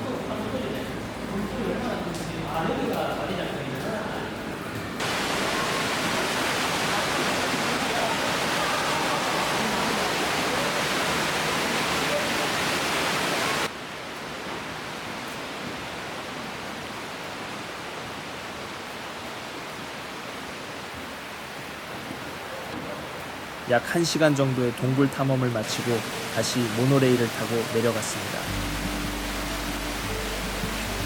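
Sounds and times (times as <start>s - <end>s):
rushing water: 0.0s - 31.0s.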